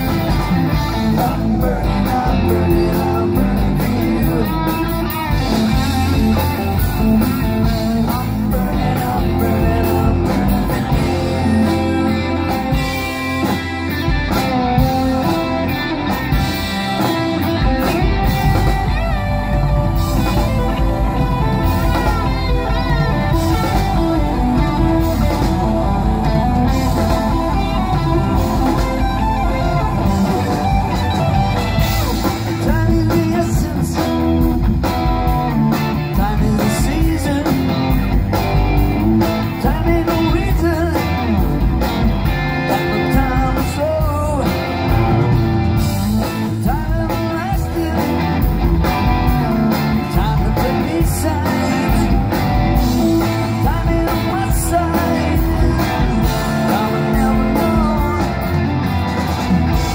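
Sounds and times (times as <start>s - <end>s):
person singing: 0.0s - 13.6s, 14.3s - 38.2s, 39.0s - 41.6s, 46.0s - 58.9s
live rock band: 0.0s - 59.9s.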